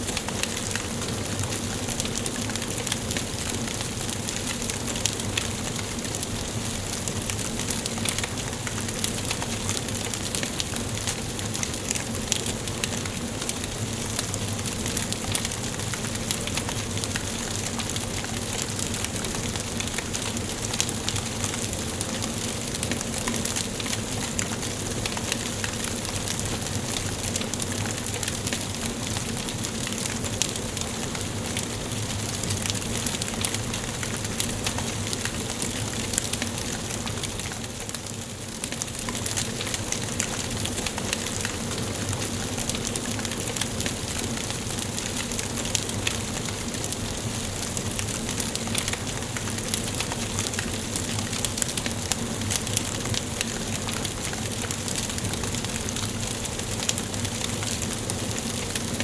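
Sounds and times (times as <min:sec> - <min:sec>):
wood fire hissing: 0:00.0 - 0:59.0.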